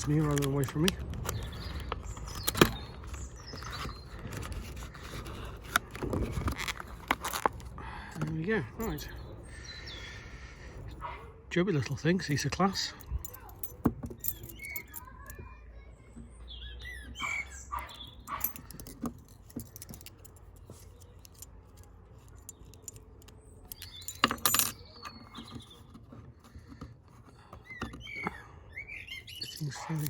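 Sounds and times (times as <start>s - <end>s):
padlock and keys rattling: 0.0s - 9.7s, 11.8s - 15.5s, 17.0s - 30.0s.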